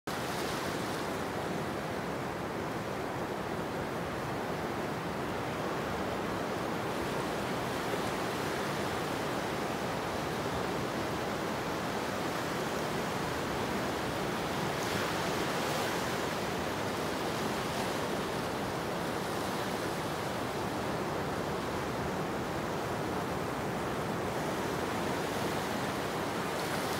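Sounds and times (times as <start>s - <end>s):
waves breaking on sandy beach: 0.1s - 26.9s.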